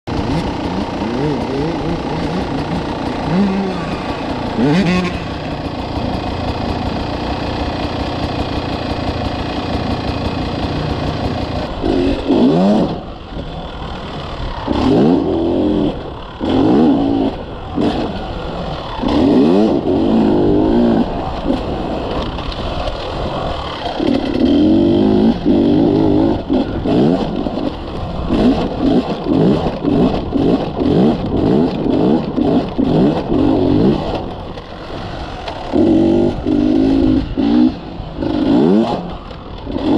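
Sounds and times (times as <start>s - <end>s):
dirt bike engine revving: 0.1s - 39.9s.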